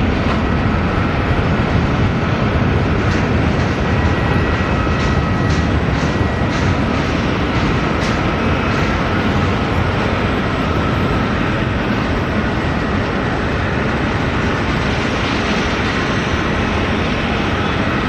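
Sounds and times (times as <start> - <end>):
faint engine whine: 0.0 - 18.0
jet engines roaring: 0.0 - 18.0.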